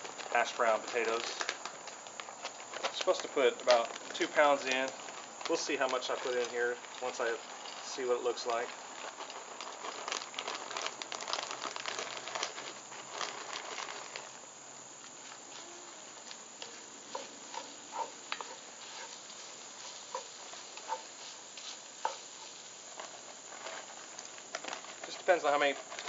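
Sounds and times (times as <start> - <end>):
potatoes sizzling in hot fat: 0.0 - 26.0.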